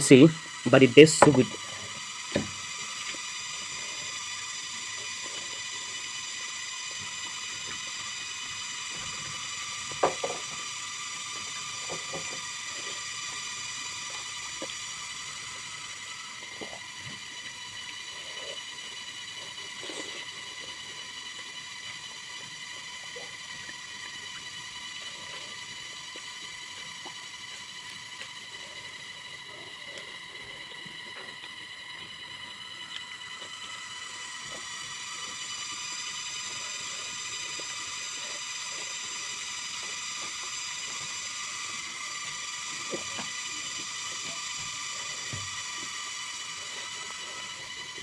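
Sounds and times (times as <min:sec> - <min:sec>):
high-pitched whine: 0:00.0 - 0:48.0.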